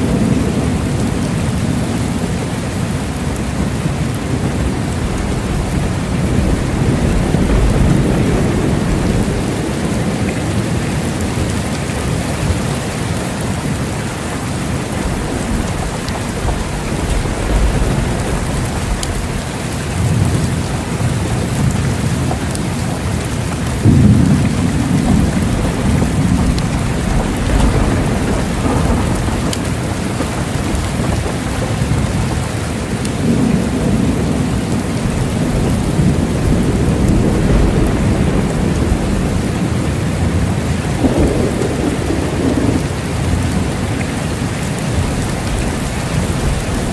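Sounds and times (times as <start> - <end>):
heavy rain: 0.0 - 46.9
rolling thunder: 0.0 - 46.9.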